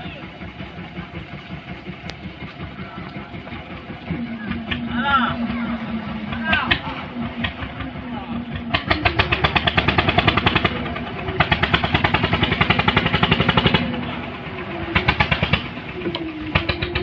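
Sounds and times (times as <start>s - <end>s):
engine pulsing rapidly: 0.0s - 17.0s.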